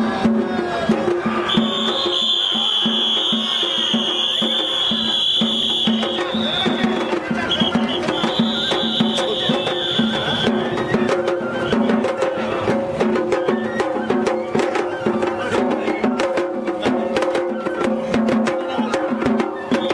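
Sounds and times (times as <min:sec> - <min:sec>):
festival flute melody: 0:00.0 - 0:19.9
rapid drum and wood strikes: 0:00.0 - 0:19.9.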